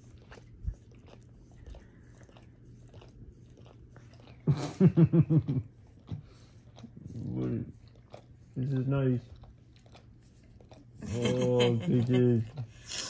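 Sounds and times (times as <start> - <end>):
dog licking and smacking: 0.0 - 13.0.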